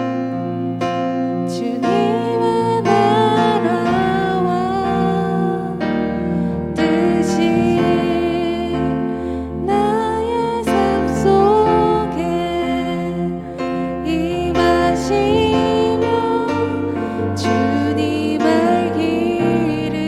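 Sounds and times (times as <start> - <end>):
piano notes: 0.0 - 20.0
person singing: 1.4 - 20.0.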